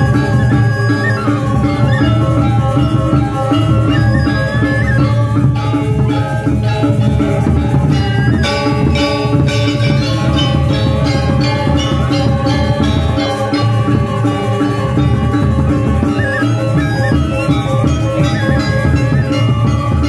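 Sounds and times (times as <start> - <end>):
gamelan playing: 0.0 - 20.0
loud accented gamelan stroke: 0.0 - 20.0.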